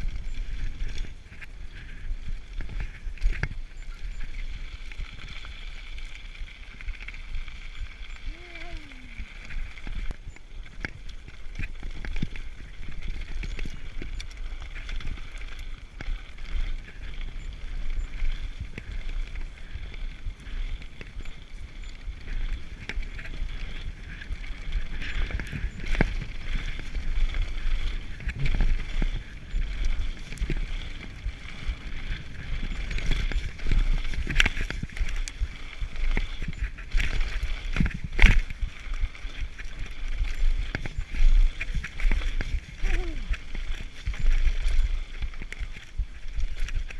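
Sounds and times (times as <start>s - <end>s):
bike tyre noise on dirt: 0.0s - 46.9s
wind rumbling on microphone: 0.0s - 46.9s
bike rattles and knocks: 6.8s - 46.9s.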